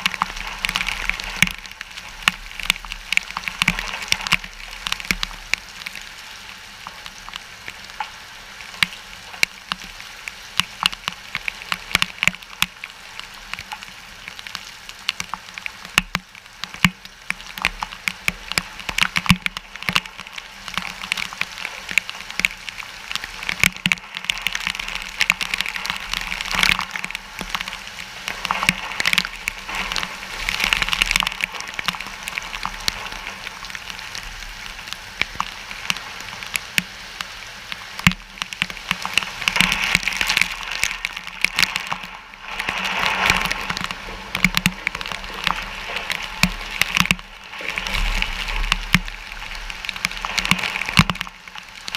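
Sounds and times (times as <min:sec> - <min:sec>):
rain falling on a hard surface: 0:00.0 - 0:51.9.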